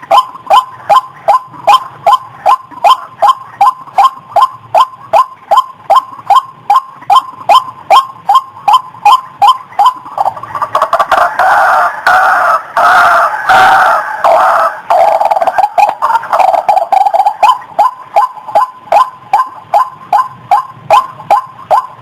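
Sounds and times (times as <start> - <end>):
bird call with sliding notes: 0.0 - 22.0.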